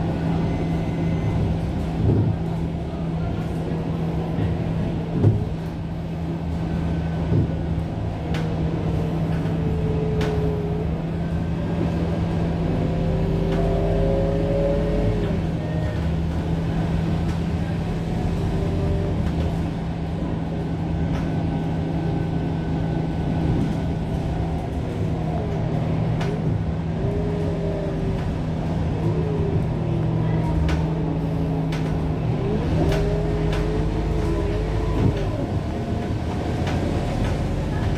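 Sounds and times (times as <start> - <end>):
bus engine drone: 0.0 - 37.9
drivetrain whine: 0.0 - 37.9.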